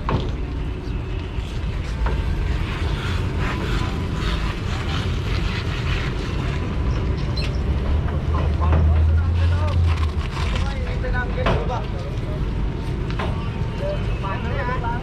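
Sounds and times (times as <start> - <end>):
ferry engine rumbling: 0.0 - 15.0.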